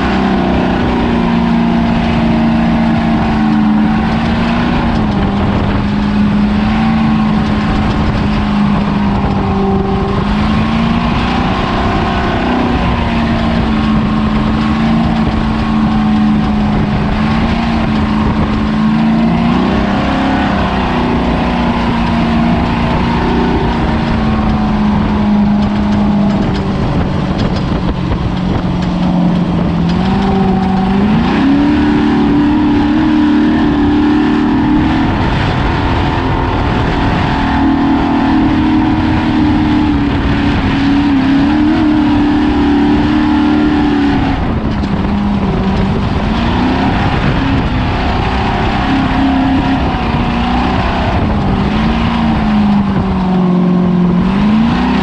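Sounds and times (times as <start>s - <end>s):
truck engine running hard: 0.0s - 55.0s
tyre and wind noise: 0.0s - 55.0s.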